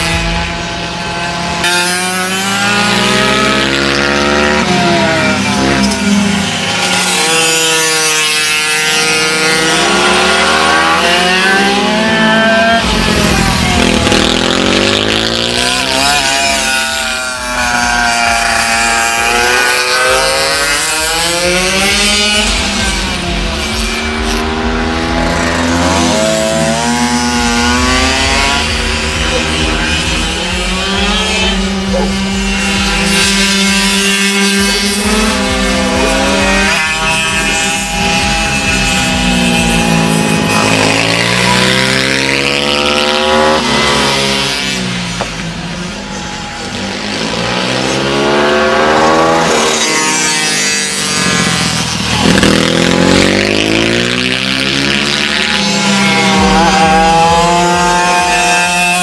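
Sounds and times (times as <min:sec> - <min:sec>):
racing motorcycle engines revving: 0:00.0 - 0:59.0.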